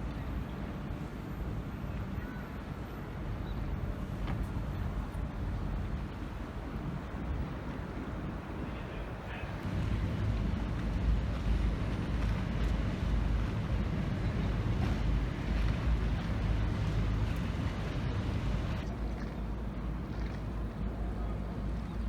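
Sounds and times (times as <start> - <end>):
boat noise: 0.0 - 22.0
river water: 0.0 - 22.0
wind rumbling on microphone: 3.7 - 22.0.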